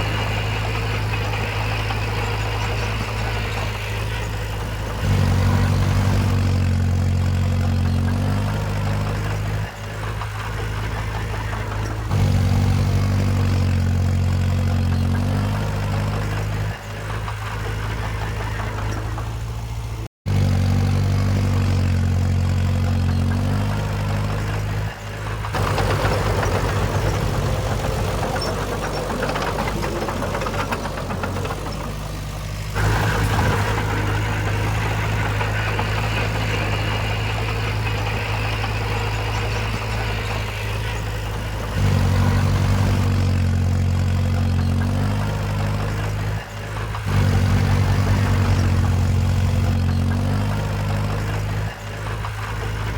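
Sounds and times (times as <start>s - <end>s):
heavy machinery diesel engines: 0.0s - 52.9s.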